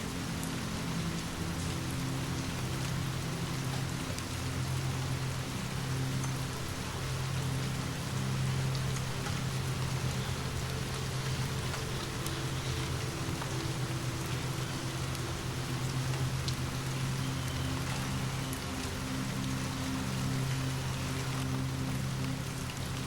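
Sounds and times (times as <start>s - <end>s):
low steady drone: 0.0s - 23.0s
steady rain falling: 0.0s - 23.0s.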